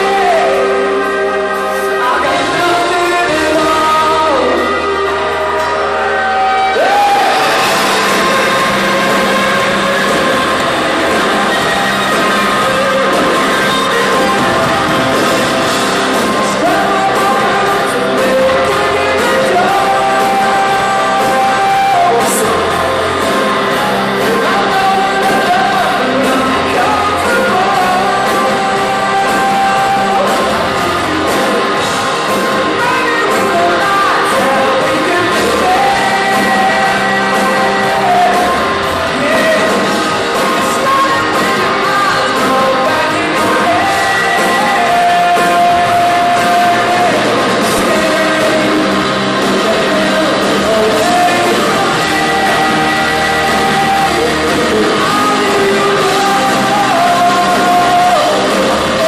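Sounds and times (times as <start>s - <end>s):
lead vocalist singing: 0.0s - 59.0s
rock band playing live: 0.0s - 59.0s.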